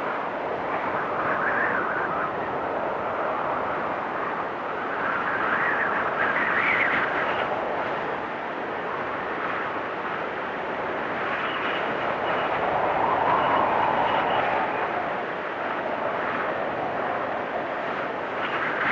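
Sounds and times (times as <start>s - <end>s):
gusting blizzard wind: 0.0s - 18.9s.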